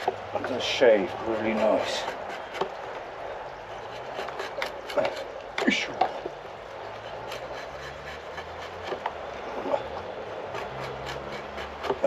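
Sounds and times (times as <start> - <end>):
blade shaving wood: 0.0 - 3.0, 3.6 - 6.2, 6.8 - 12.0.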